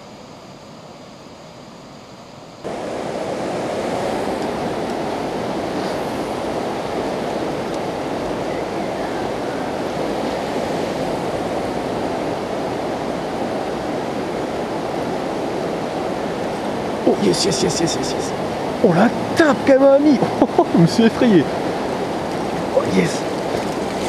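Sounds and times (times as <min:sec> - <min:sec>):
fast-flowing river rushing: 0:02.7 - 0:24.0.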